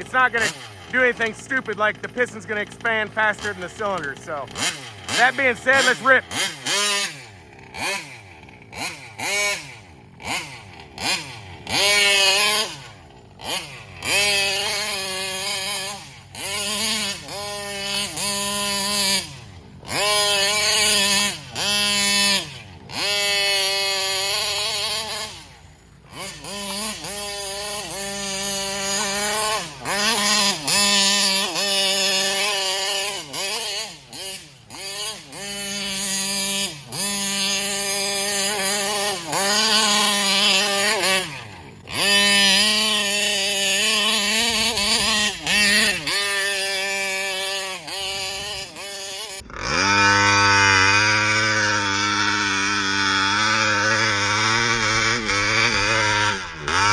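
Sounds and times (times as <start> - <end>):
two-stroke engine revving: 0.0 - 56.9.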